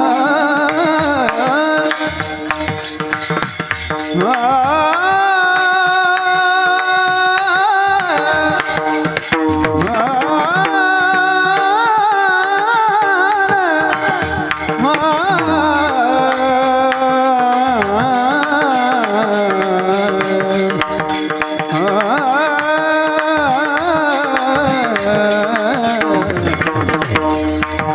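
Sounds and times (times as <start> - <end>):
person singing devotional song: 0.0 - 27.9.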